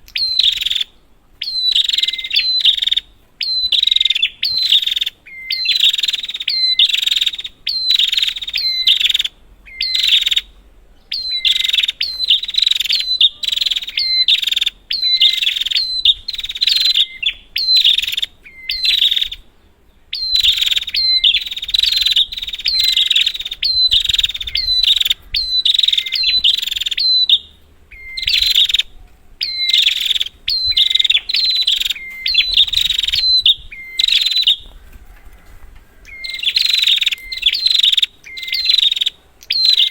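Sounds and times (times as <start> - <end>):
bird chattering calls: 0.0 - 39.9.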